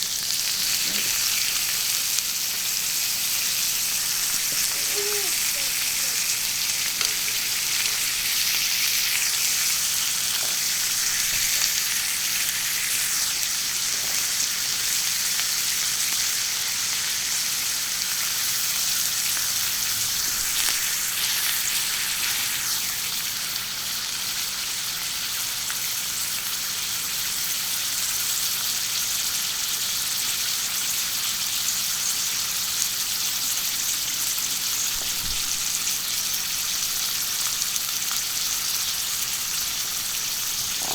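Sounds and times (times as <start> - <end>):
food sizzling on a griddle: 0.0 - 40.9.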